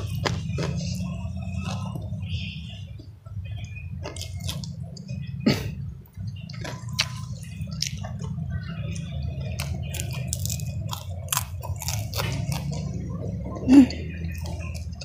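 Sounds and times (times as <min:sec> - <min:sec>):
chewing and lip smacks: 0:00.0 - 0:02.2, 0:03.0 - 0:05.4, 0:06.0 - 0:15.0
low hum: 0:00.0 - 0:15.0.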